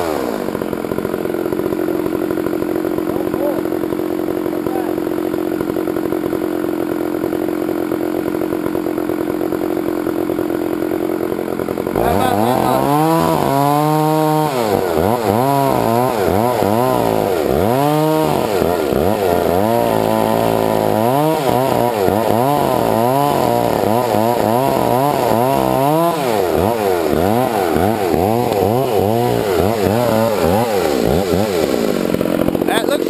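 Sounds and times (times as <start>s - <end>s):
chainsaw cutting wood: 0.0s - 33.0s.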